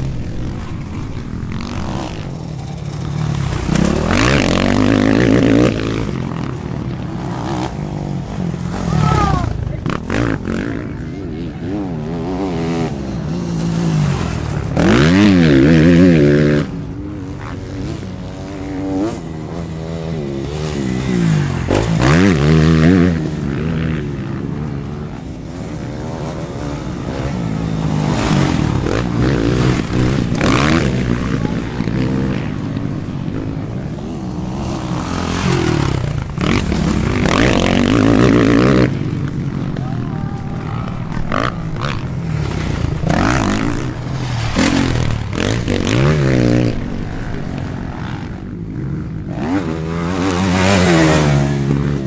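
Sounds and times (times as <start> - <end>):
motocross bikes revving past: 0.0 - 52.0.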